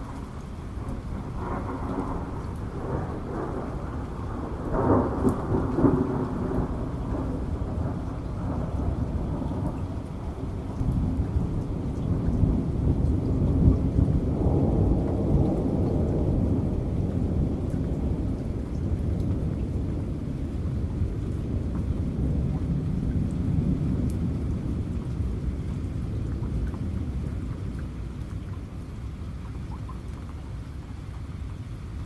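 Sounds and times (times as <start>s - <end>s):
thunder rumbling: 0.0s - 29.9s
heavy rain: 0.0s - 32.0s.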